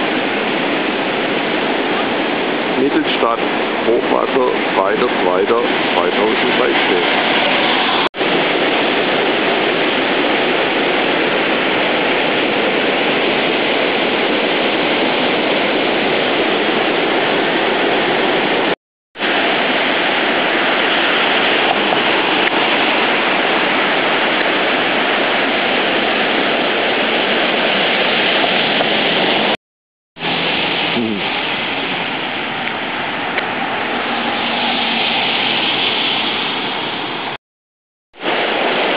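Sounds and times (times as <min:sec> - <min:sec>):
floodwater rushing: 0:00.0 - 0:29.6, 0:30.2 - 0:37.4, 0:38.2 - 0:38.9.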